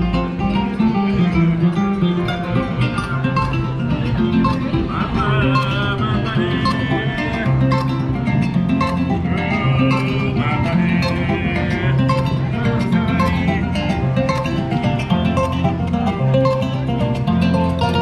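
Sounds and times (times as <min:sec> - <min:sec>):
upbeat acoustic guitar music: 0:00.0 - 0:18.0
wavering melody line: 0:00.0 - 0:18.0.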